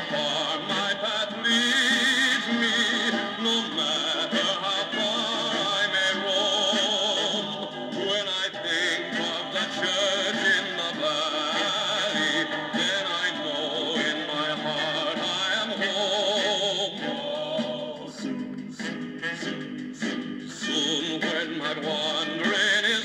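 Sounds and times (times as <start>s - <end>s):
instrumental backing: 0.0s - 23.0s
man singing with vibrato: 0.0s - 23.0s.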